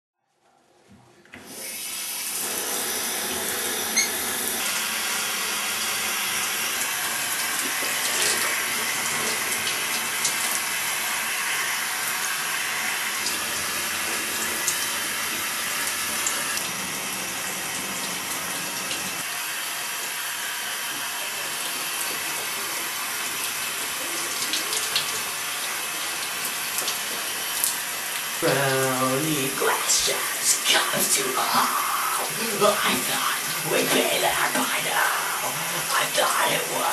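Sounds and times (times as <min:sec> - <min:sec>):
shower spray hissing: 0:01.5 - 0:36.9.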